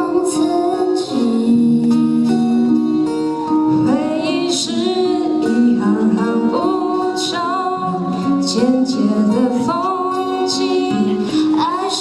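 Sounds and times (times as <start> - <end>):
acoustic guitars strummed: 0.0 - 12.0
woman singing: 0.0 - 12.0.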